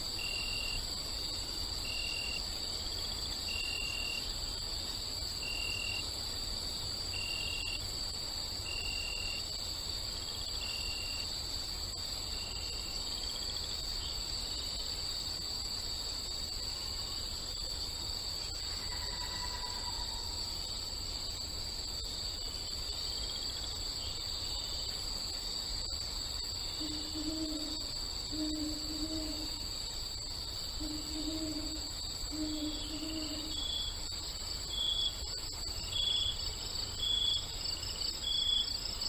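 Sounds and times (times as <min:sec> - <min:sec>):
insect chirp: 0:00.0 - 0:39.0
insects trilling: 0:00.0 - 0:39.0.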